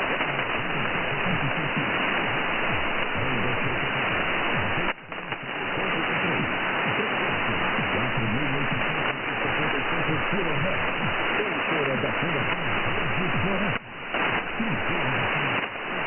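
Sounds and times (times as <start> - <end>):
faint radio programme audio: 0.0 - 16.0
radio static hiss: 0.0 - 16.0.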